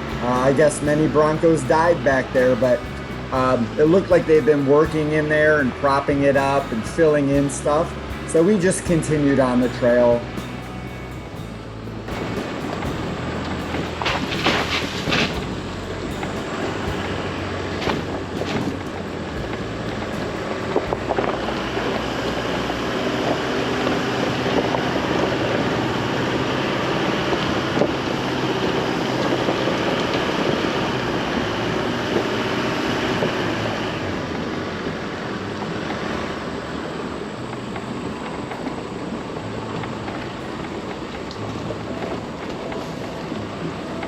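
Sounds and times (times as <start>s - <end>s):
pickup engine and tyre noise: 0.0s - 44.0s.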